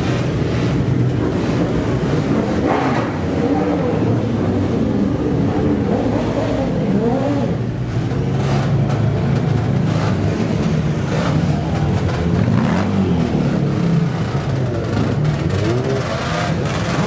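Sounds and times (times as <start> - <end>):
vehicle engines revving: 0.0 - 17.0.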